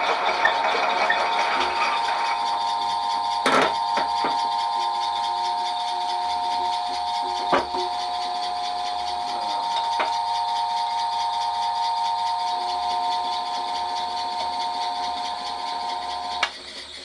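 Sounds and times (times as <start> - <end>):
lathe mechanical whine: 0.0 - 17.0.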